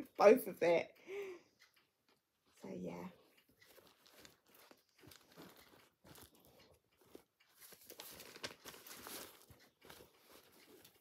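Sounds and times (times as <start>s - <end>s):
small clicks and ticks: 0.0s - 11.0s
faint rustling and crinkling: 2.0s - 11.0s.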